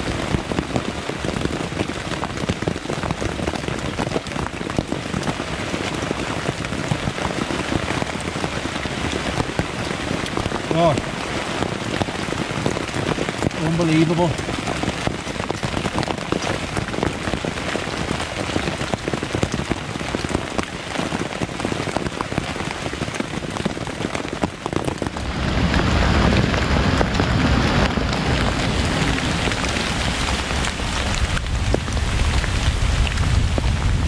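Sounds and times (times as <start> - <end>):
rain pattering on a tent: 0.0 - 34.0.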